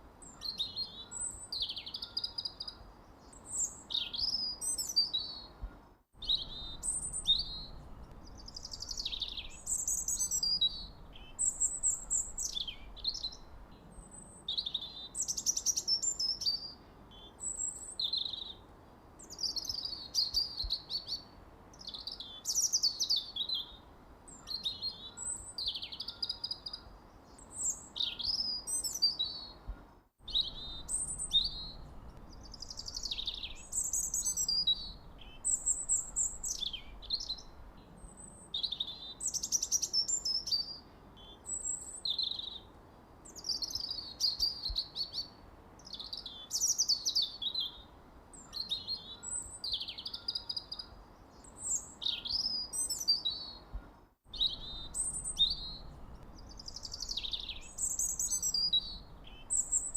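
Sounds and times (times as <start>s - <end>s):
songbirds chirping and singing: 0.2s - 18.6s, 19.2s - 59.9s.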